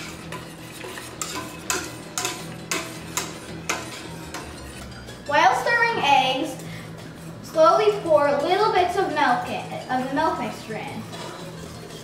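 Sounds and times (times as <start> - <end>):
utensil scraping a steel pot: 0.0 - 12.0.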